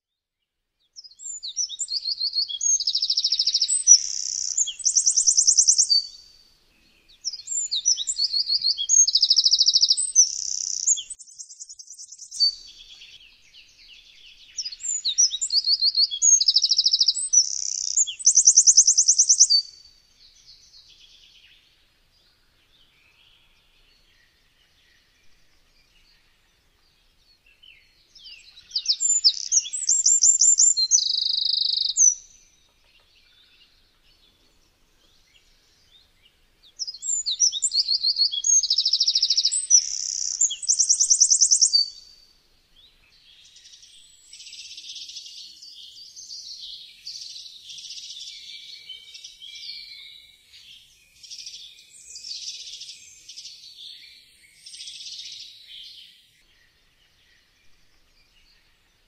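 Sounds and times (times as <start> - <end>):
wren singing: 0.8 - 6.4, 7.0 - 59.0.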